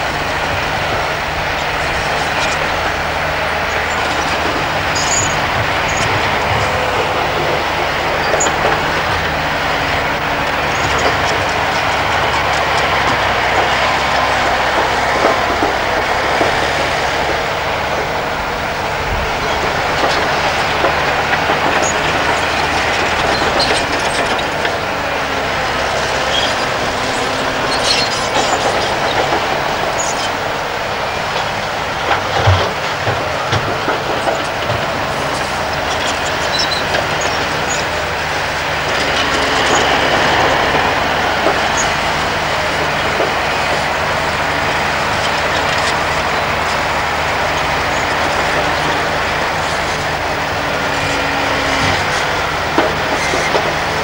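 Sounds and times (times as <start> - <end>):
rattling and clatter: 0.0 - 50.2
diesel engines running: 0.0 - 54.0.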